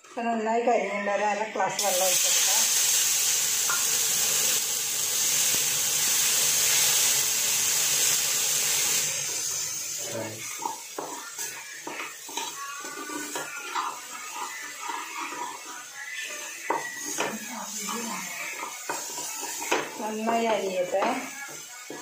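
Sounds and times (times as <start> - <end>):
water hissing in hot pan: 1.8 - 22.0.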